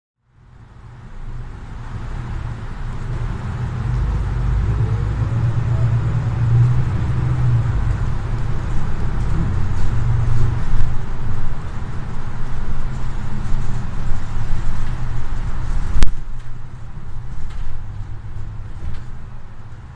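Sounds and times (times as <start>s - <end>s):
bus diesel engine rumble: 0.3s - 19.9s.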